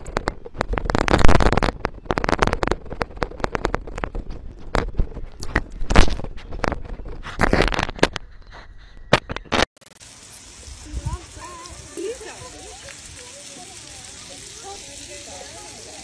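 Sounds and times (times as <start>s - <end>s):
rapid crackle of clicks: 0.0s - 8.4s, 9.1s - 16.0s.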